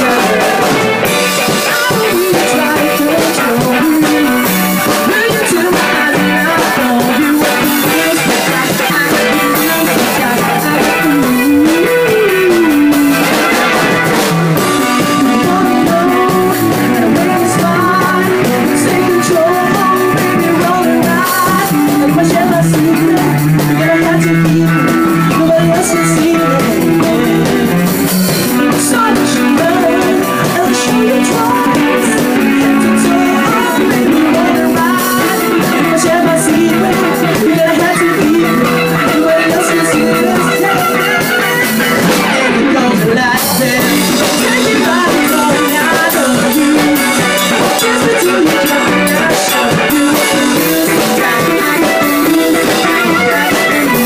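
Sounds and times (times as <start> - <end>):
drum kit: 0.0 - 54.0
electric guitar: 0.0 - 54.0
person singing: 0.0 - 54.0.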